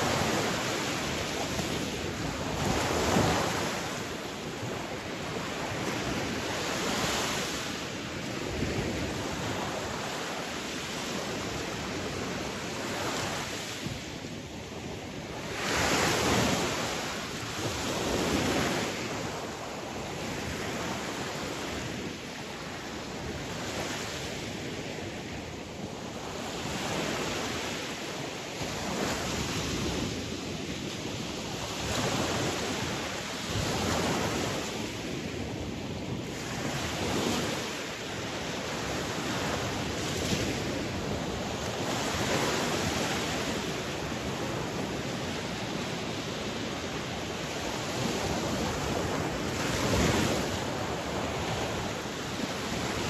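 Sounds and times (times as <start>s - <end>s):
sea waves breaking on shore: 0.0s - 53.0s
wind noise: 0.0s - 53.0s.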